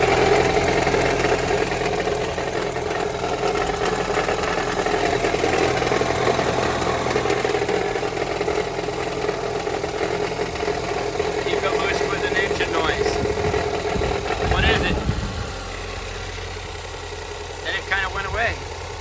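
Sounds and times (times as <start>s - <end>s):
car engine idling: 0.0s - 19.0s
engine rattle: 0.0s - 19.0s.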